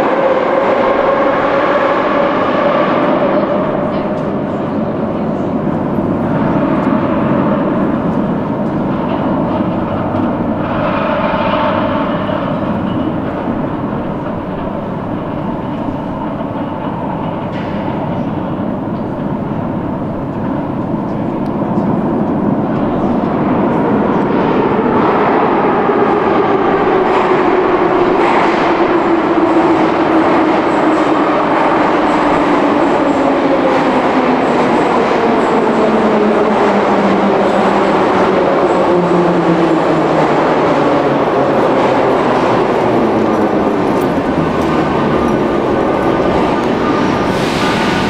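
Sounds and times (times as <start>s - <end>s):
train wheels rumbling and rattling: 0.0s - 48.0s.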